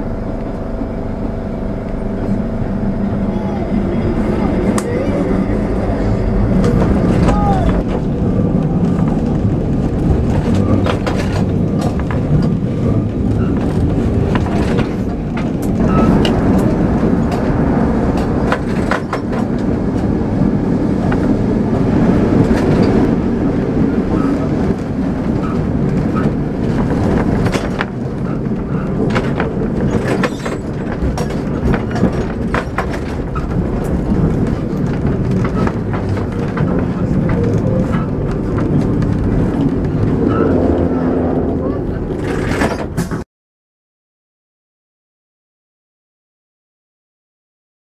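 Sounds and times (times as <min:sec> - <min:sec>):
tram rumbling on track: 0:00.0 - 0:43.3
wheels clicking over rail joints: 0:03.2 - 0:43.2.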